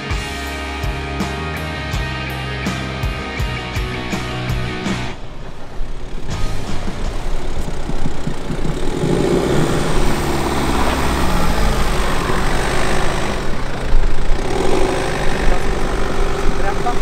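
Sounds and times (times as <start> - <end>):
car engine rumbling: 3.1 - 17.0.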